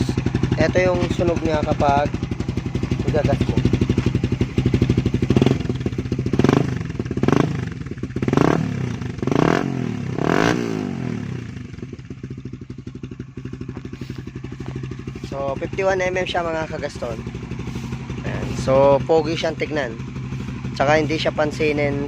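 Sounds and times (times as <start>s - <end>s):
motorcycle engine idling: 0.0s - 22.0s
motorcycle engine revving: 0.0s - 22.0s.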